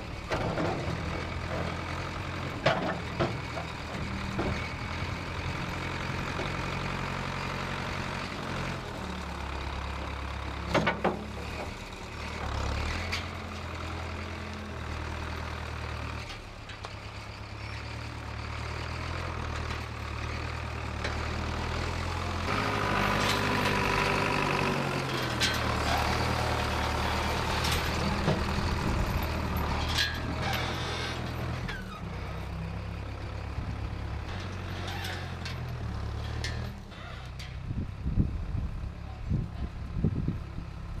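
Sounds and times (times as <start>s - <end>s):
backhoe engine running: 0.0s - 41.0s.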